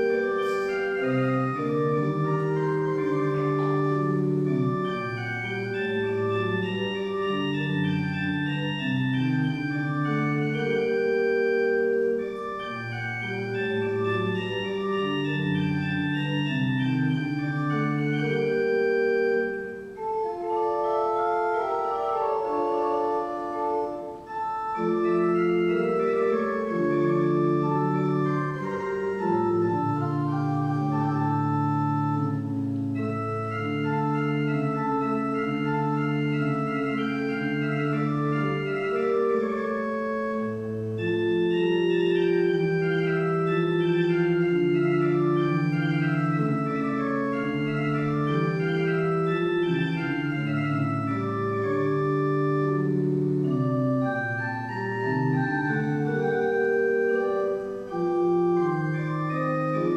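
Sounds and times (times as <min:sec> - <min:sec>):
church organ chords: 0:00.0 - 0:59.9.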